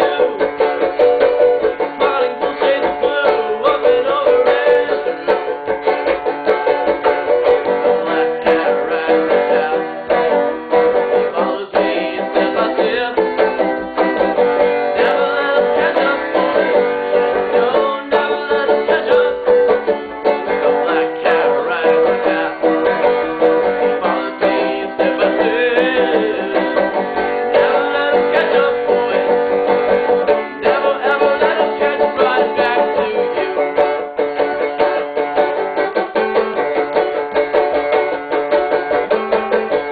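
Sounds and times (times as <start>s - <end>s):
banjo picking: 0.0s - 39.9s.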